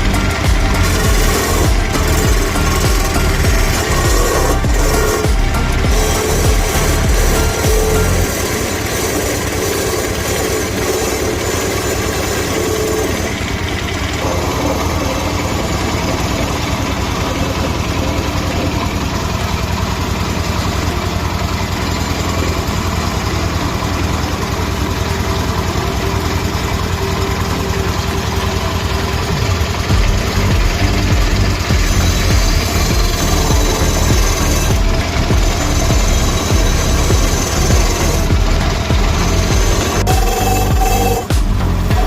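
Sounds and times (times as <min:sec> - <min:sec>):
small engine running steadily: 0:00.0 - 0:42.0.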